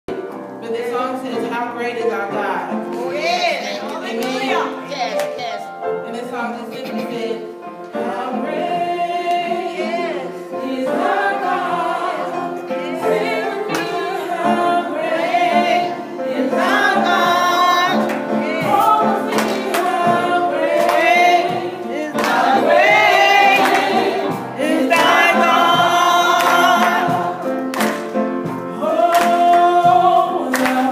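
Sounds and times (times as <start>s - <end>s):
woman singing gospel song: 0.6s - 27.5s.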